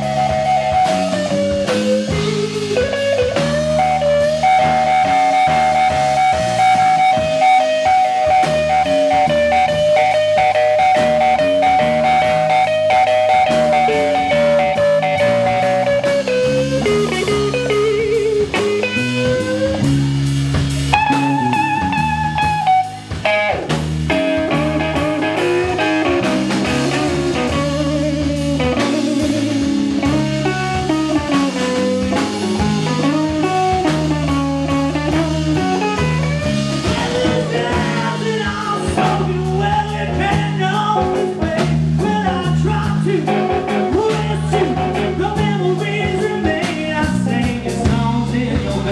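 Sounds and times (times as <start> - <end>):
bass guitar: 0.0 - 48.9
drum kit: 0.0 - 48.9
lead electric guitar: 0.0 - 48.9.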